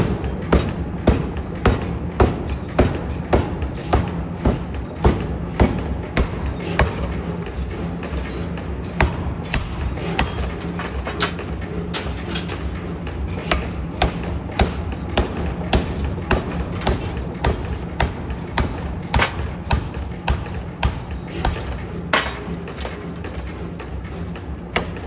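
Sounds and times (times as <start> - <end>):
power hammer striking metal: 0.0 - 23.0, 24.7 - 25.0
low machine hum: 0.0 - 25.0.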